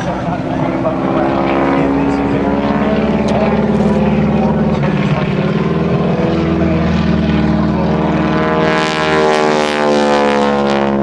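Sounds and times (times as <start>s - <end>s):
propeller plane engine flyby: 0.0s - 11.0s.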